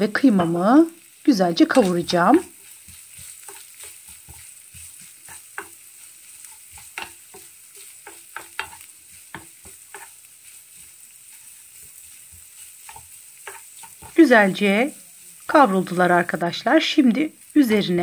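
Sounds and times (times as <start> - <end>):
meat sizzling in a frying pan: 0.0 - 18.0
wooden spoon scraping a pan: 1.6 - 16.1.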